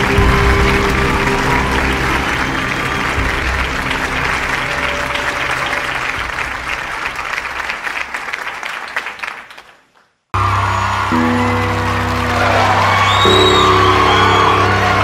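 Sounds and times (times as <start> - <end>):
background music: 0.0 - 8.1, 10.4 - 15.0
audience applauding: 0.0 - 15.0.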